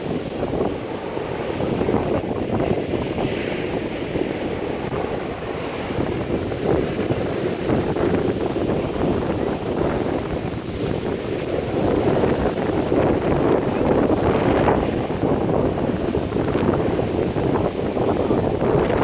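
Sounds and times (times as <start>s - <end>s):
strong wind buffeting microphone: 0.0s - 19.0s
surf breaking on shore: 0.0s - 19.0s.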